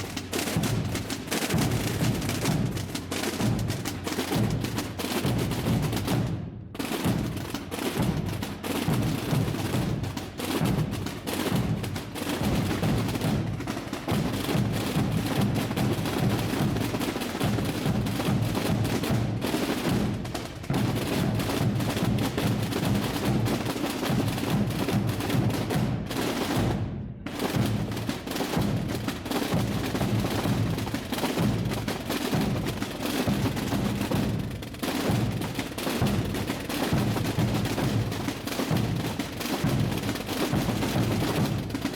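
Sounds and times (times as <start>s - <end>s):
massed drums beating: 0.0s - 17.0s, 24.5s - 41.9s.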